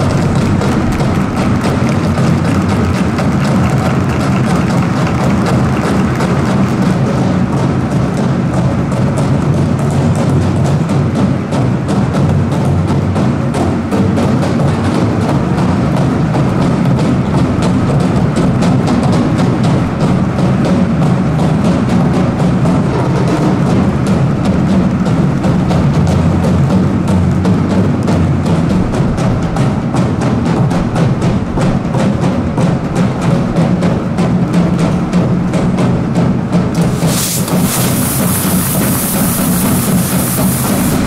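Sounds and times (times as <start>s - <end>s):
music with fast percussion beat: 0.0s - 41.0s.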